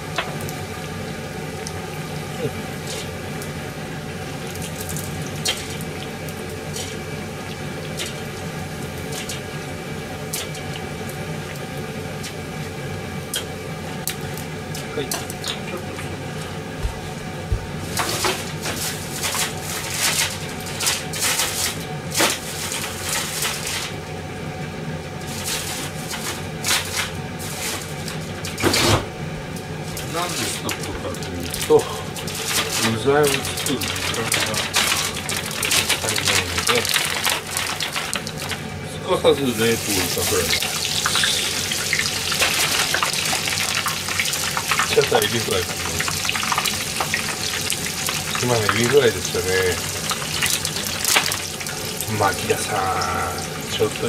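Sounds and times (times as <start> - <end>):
oil deep-frying hiss: 0.0 - 54.0.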